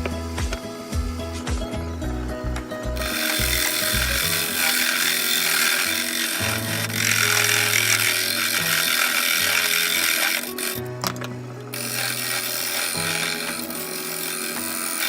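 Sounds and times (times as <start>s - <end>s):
background music: 0.0s - 15.0s
wood lathe hissing: 0.0s - 15.0s.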